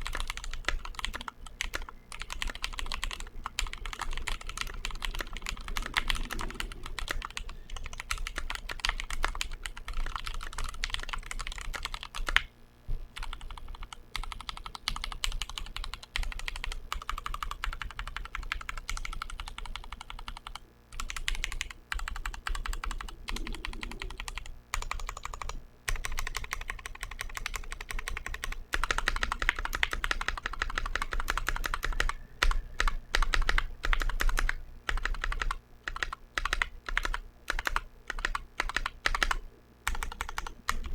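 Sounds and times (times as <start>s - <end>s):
fast typing on mechanical keyboard: 0.0s - 12.5s, 13.2s - 40.9s.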